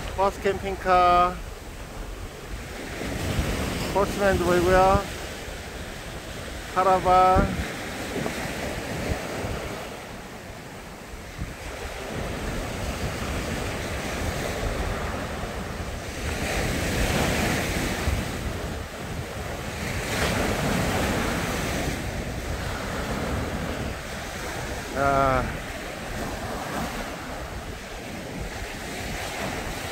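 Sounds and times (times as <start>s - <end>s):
surf breaking on beach: 0.0s - 29.9s
wind buffeting microphone: 0.0s - 29.9s.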